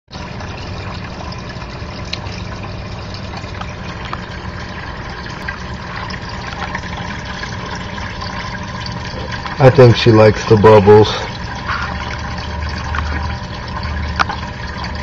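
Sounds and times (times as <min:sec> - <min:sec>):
aquarium filter water splashing: 0:00.1 - 0:15.0.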